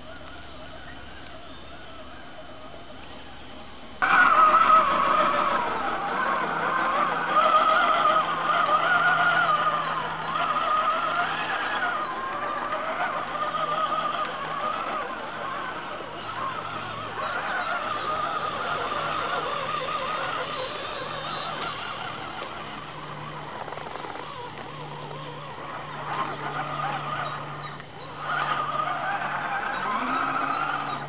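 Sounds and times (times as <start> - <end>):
rc truck motor whine: 0.0 - 31.0.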